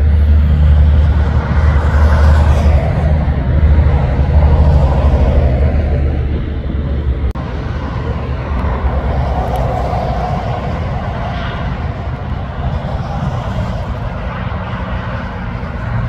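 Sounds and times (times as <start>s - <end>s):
heavy trucks passing: 0.0s - 16.0s.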